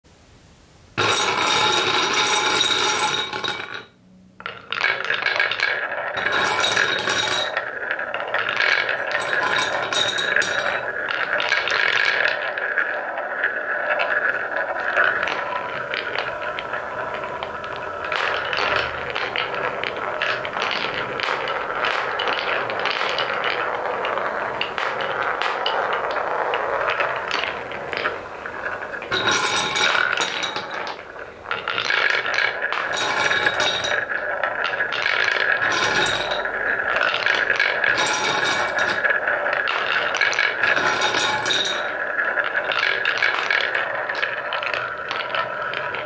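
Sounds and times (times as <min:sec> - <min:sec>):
wooden balls rolling and clattering: 0:00.9 - 0:46.0.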